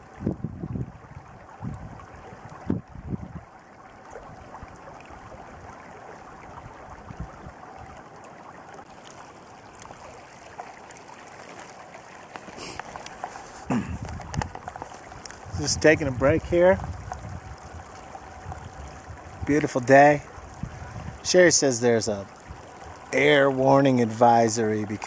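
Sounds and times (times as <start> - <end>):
creek running over pebbles: 0.0 - 25.0.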